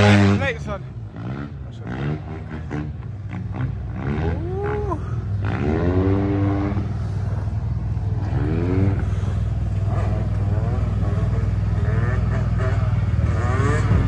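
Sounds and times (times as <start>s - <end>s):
low engine rumble: 0.0s - 14.0s
motorbike engine revving: 0.0s - 14.0s.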